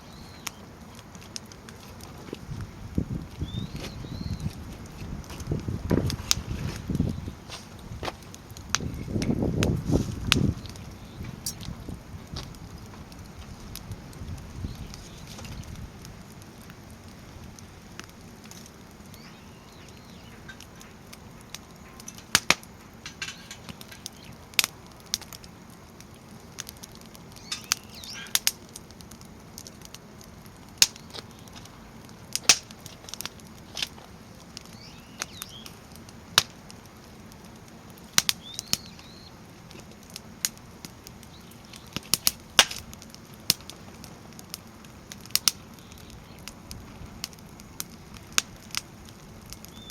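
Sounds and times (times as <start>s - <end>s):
firewood crackling and popping: 0.0s - 49.9s
low fire hiss: 0.0s - 49.9s.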